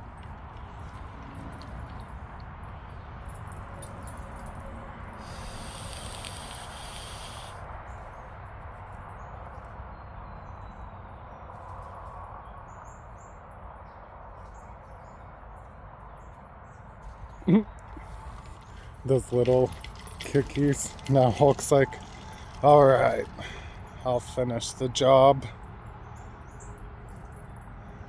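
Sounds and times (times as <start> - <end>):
low outdoor background: 0.0 - 28.0.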